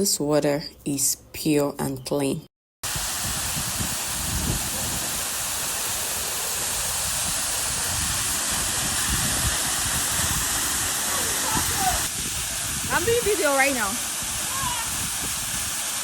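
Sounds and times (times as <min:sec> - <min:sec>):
waterfall rushing: 0:02.8 - 0:16.0.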